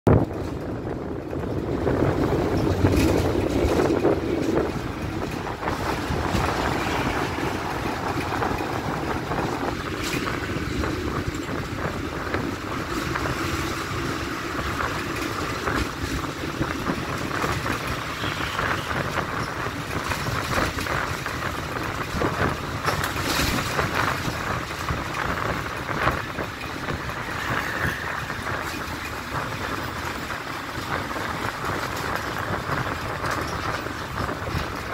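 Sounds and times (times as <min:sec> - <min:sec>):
vehicle running noise: 0:00.1 - 0:34.9
wind rushing past window: 0:00.1 - 0:34.9.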